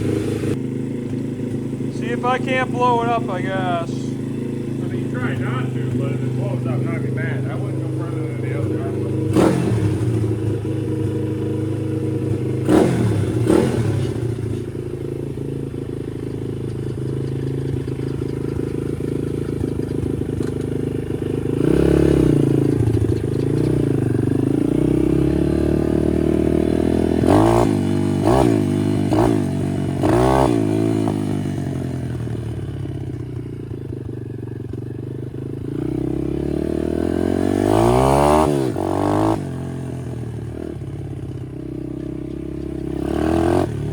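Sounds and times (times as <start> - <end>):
small motorbike engine revving: 0.0 - 43.9.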